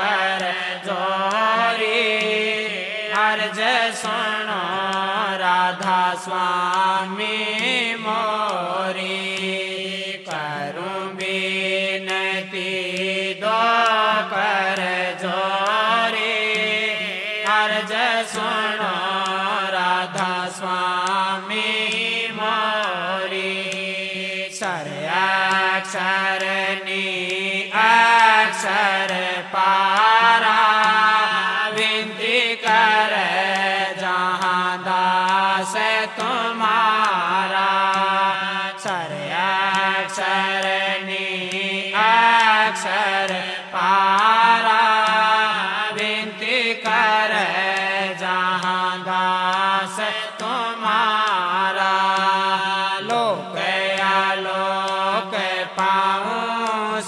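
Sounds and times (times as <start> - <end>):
person singing a hymn: 0.0 - 57.0.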